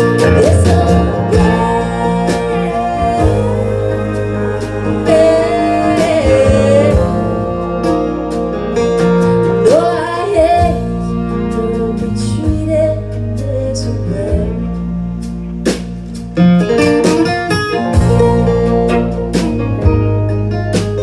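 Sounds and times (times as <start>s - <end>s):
acoustic guitar: 0.0s - 21.0s
electric bass: 0.0s - 21.0s.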